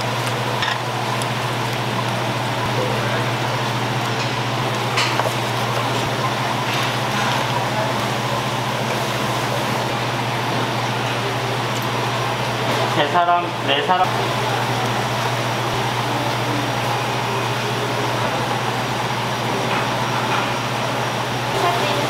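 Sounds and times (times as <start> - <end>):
ventilation hum: 0.0 - 22.0.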